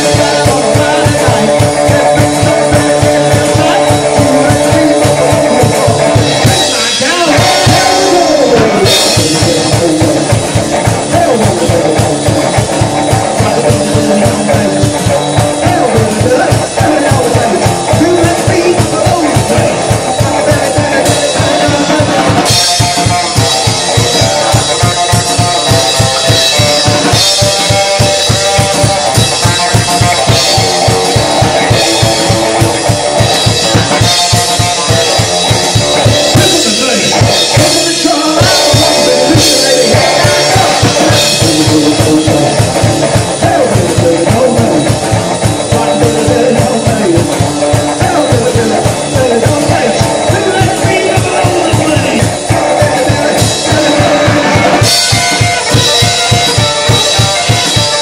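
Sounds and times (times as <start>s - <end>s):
drum kit fast beat: 0.0s - 58.0s
electric guitar: 0.0s - 58.0s
person singing: 0.0s - 58.0s.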